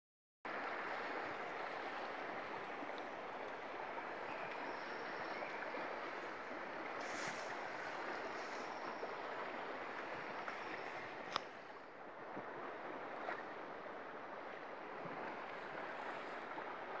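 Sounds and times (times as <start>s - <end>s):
shallow stream running: 0.5s - 17.0s.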